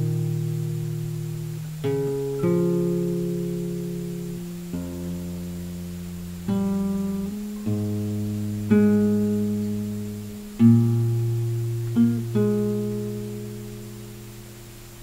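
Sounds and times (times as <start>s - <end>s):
acoustic guitar chords ringing: 0.0s - 15.0s.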